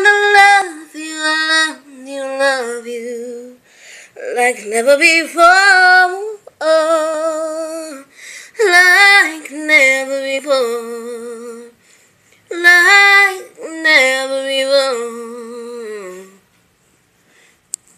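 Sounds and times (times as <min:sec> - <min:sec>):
woman singing: 0:00.0 - 0:03.6, 0:04.2 - 0:11.8, 0:12.5 - 0:16.5.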